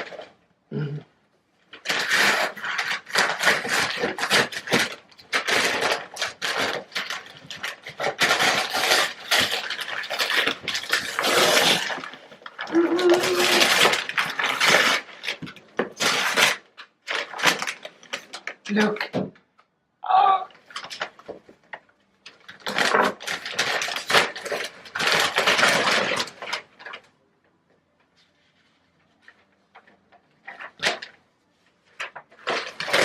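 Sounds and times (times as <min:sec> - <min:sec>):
packaging rustling and crinkling: 0:01.7 - 0:18.9, 0:20.6 - 0:27.1, 0:28.2 - 0:33.0.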